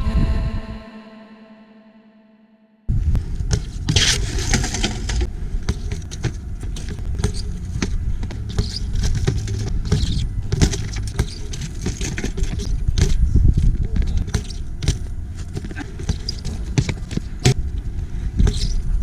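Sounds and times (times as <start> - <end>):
wind rumbling on microphone: 0.0 - 1.2, 2.9 - 19.0
bike rolling on concrete: 2.9 - 19.0.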